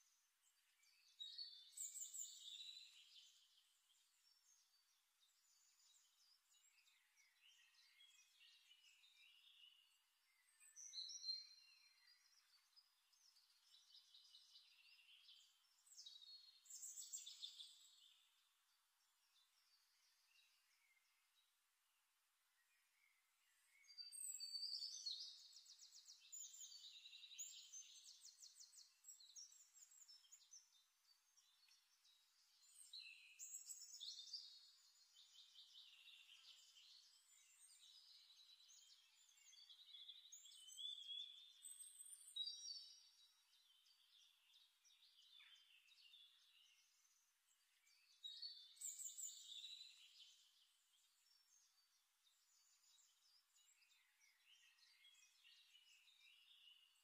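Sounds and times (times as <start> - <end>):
songbird trilling and chirping: 0.8 - 18.4, 23.7 - 57.0.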